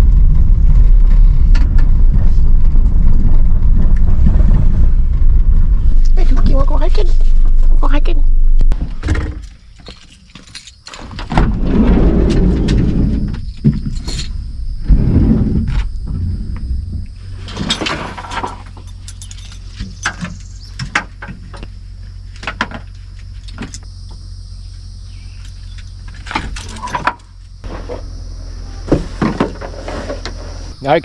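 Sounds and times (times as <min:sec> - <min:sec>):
steady low rumble: 0:00.0 - 0:09.0, 0:11.3 - 0:31.0.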